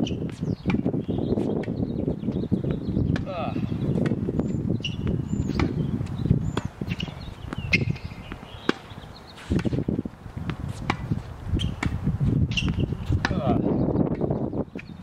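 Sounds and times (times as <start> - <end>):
tennis ball hitting racket: 0.0 - 1.8, 3.1 - 14.9.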